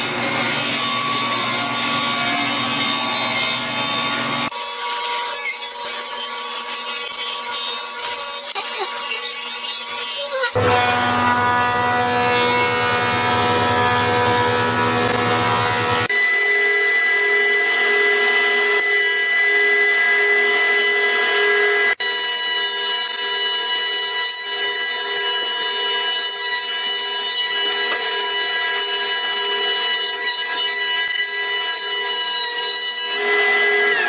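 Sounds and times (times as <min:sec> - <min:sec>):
thickness planer whining: 0:00.0 - 0:34.0.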